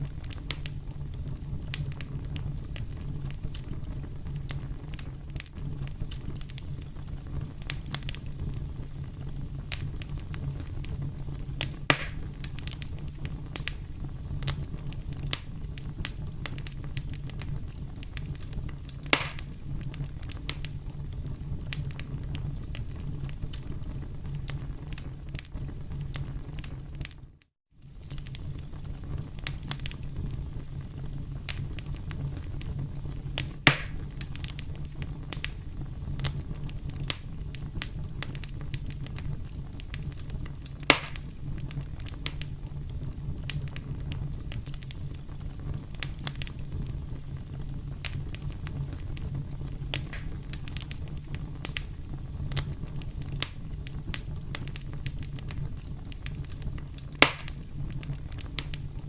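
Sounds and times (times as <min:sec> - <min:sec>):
campfire crackling: 0:00.0 - 0:27.2, 0:27.8 - 0:59.0
fire pops: 0:00.0 - 0:59.0.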